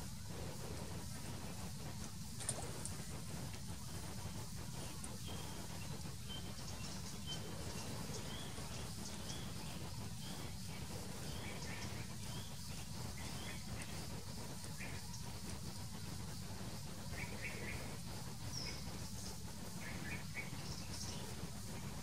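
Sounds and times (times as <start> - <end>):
faint insect buzzing: 0.0 - 22.0
small birds chirping: 0.0 - 22.0.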